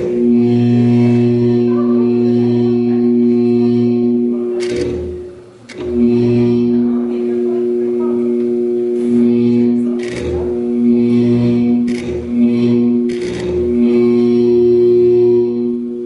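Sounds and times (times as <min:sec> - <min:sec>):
low drone with overtones: 0:00.0 - 0:16.0.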